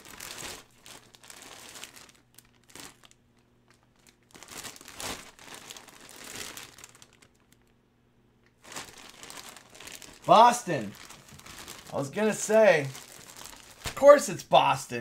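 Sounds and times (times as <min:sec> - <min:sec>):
plastic bag crinkling: 0:00.0 - 0:07.8, 0:08.4 - 0:14.3.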